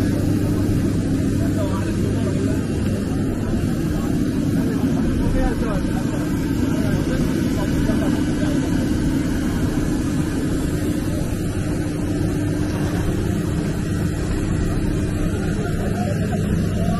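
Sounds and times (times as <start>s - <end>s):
jet airliner engine drone: 0.0s - 16.9s.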